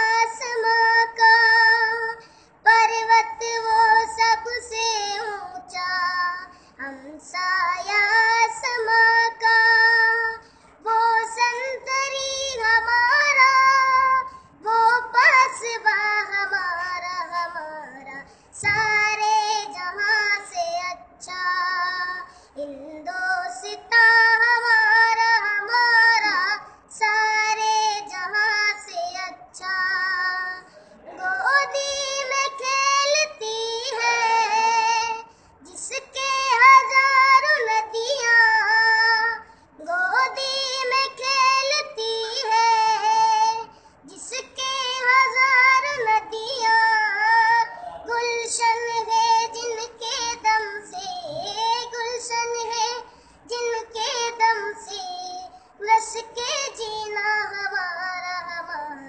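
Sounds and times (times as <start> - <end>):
boy singing: 0.0 - 59.0.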